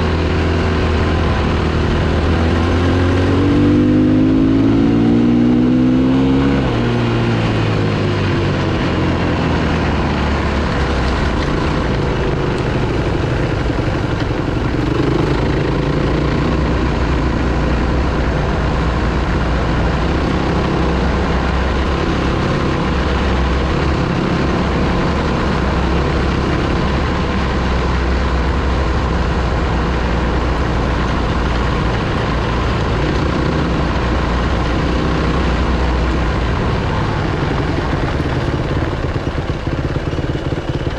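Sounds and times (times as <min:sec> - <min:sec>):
dirt bike engine: 0:00.0 - 0:40.9.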